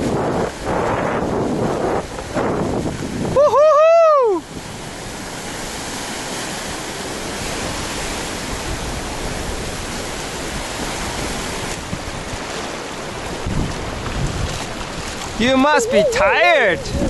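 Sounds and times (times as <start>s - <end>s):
ocean surf rushing onto beach: 0.0s - 17.0s.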